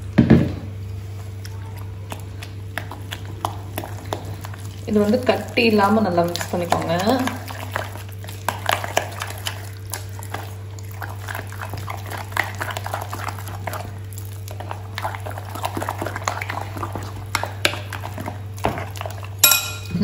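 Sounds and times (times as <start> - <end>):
spoon stirring batter in a bowl: 1.3 - 20.0.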